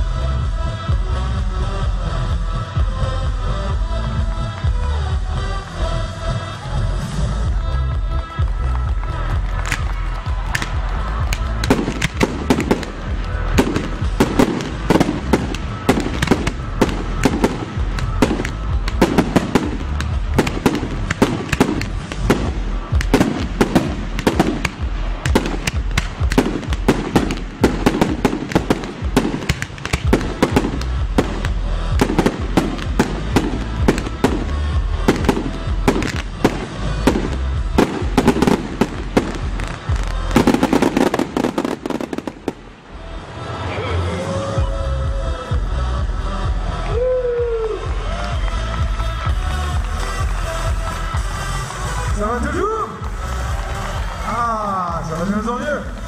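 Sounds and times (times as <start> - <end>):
music playing: 0.0 - 56.0
fireworks bangs and crackles: 6.9 - 43.7, 45.4 - 56.0.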